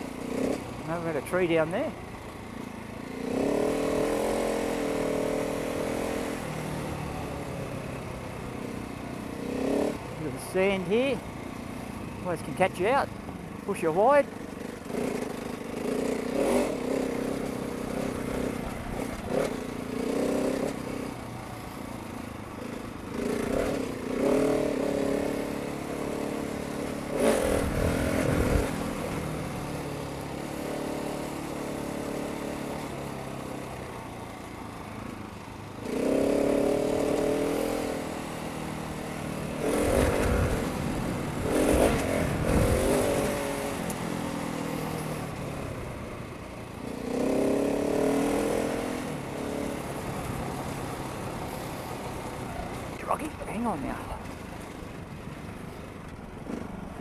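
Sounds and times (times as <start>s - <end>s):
motorcycle engine revving: 0.0s - 13.1s, 13.9s - 34.9s, 35.5s - 55.4s.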